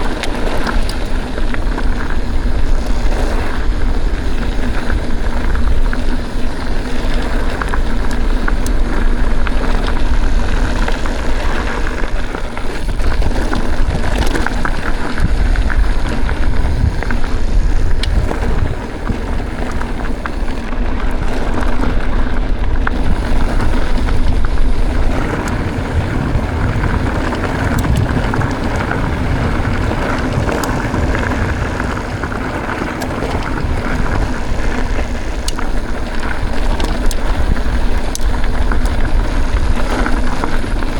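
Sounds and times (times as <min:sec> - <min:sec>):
bike rolling on dirt trail: 0:00.0 - 0:40.9
wind buffeting microphone: 0:00.0 - 0:40.9.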